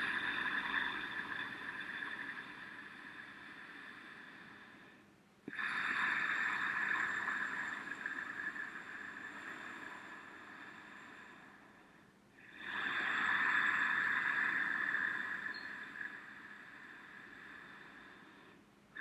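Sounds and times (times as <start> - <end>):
slow hissing breathing: 0.0 - 19.0.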